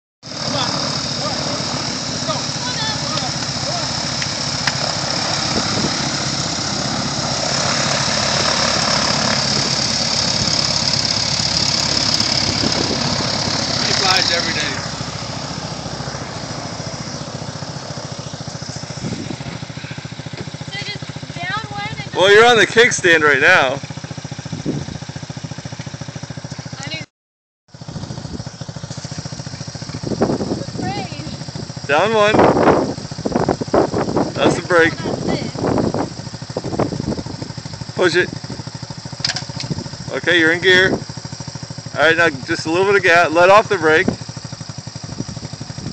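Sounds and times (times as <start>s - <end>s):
light aircraft engine: 0.2s - 27.1s, 27.7s - 45.9s
motorcycle engine idling: 0.2s - 27.1s, 27.7s - 45.9s.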